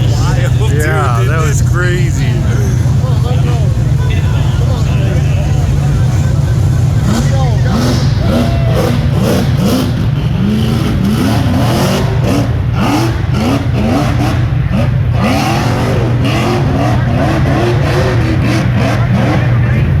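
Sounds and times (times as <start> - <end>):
engines revving in quick bursts: 0.0 - 20.0
low engine drone: 0.0 - 20.0.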